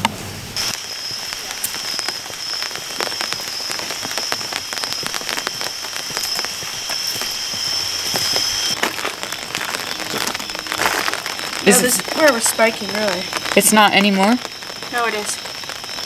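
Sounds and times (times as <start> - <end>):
high-pitched whine: 0.0 - 16.0
crackling hiss with ticks: 0.6 - 16.0.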